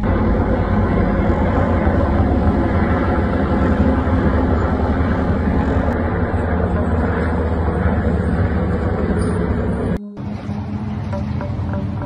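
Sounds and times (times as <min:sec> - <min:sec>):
helicopter rotor rumble: 0:00.0 - 0:12.0.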